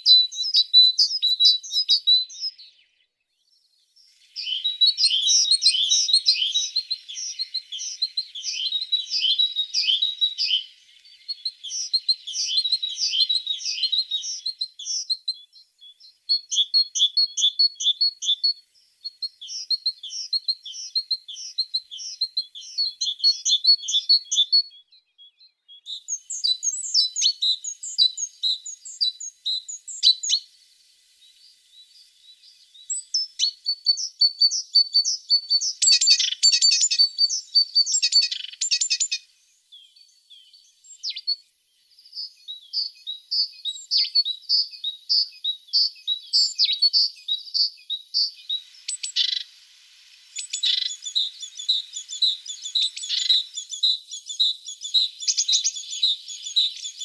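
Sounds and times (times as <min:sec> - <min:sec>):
bird chirping song: 0:00.0 - 0:57.0.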